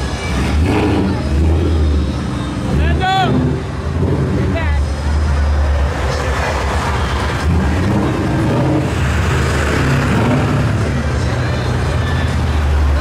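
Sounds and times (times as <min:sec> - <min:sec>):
car engines rumbling: 0:00.0 - 0:13.0
pickup truck driving past: 0:00.0 - 0:13.0.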